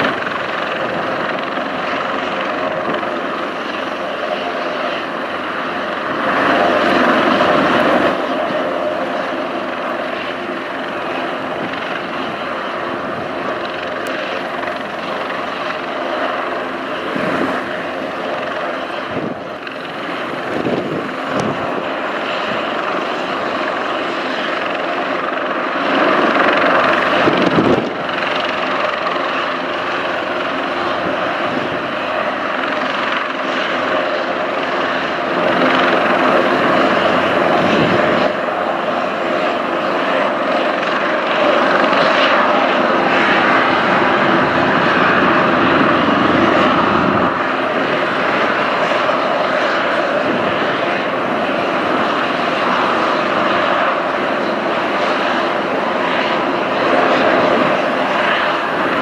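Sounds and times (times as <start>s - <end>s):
helicopter turbine and rotor: 0.0s - 59.0s.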